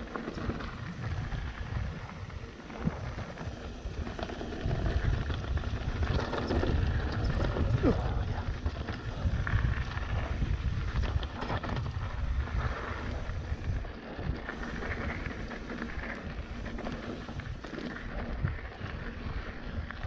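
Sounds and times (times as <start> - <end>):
bike tyres on dirt: 0.0 - 20.0
wind rumbling on microphone: 0.0 - 20.0.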